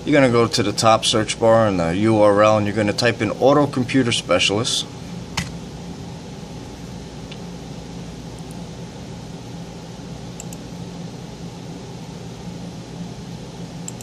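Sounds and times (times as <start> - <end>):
ventilation hum and hiss: 0.0 - 14.0.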